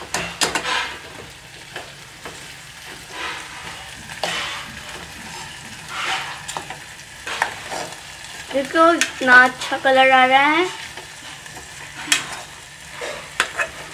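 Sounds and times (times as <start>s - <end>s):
potatoes sizzling: 0.0s - 13.9s.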